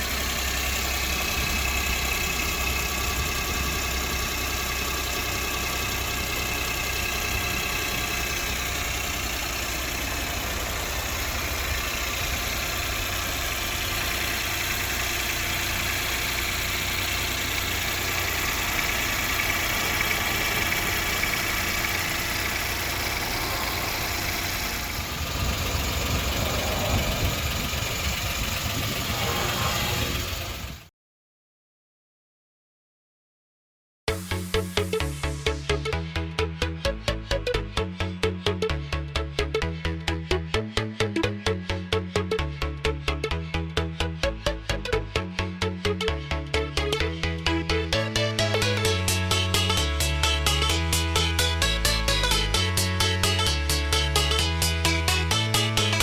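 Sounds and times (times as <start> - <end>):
car engine idling: 0.0 - 30.9, 34.2 - 56.0.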